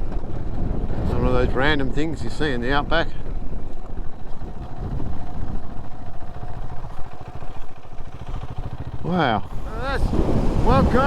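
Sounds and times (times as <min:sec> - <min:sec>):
road rumble: 0:00.0 - 0:11.0
vehicle engine drone: 0:00.0 - 0:11.0.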